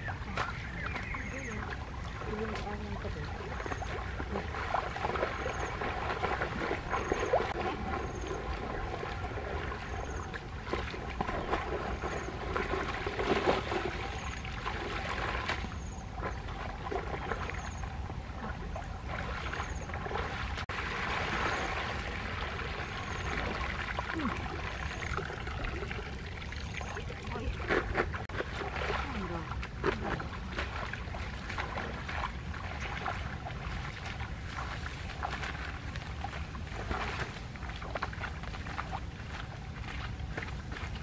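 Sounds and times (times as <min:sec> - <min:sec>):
water sloshing: 0:00.0 - 0:41.0
water running from baskets: 0:00.3 - 0:14.0, 0:20.1 - 0:41.0.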